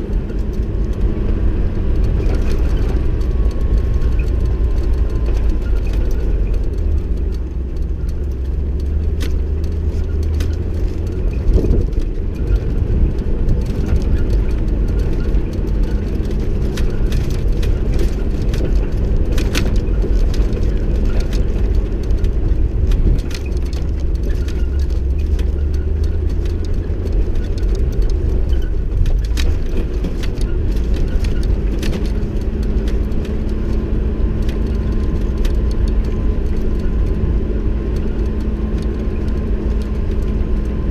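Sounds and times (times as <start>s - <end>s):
knocks and rattles: 0.0s - 40.9s
vehicle engine running: 0.0s - 40.9s.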